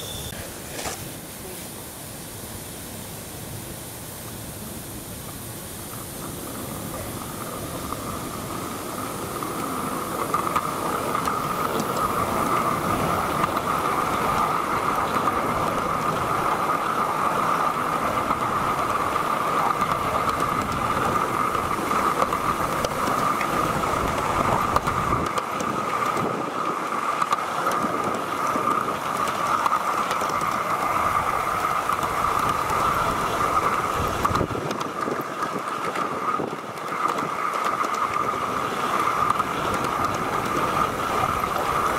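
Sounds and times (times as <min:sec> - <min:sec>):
model train wheels rumbling: 0:00.0 - 0:41.9.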